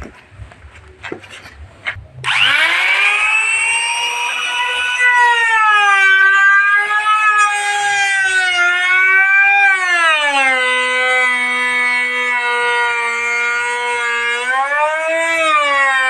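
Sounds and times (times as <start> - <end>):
woodworking machine motor whine: 2.2 - 16.0.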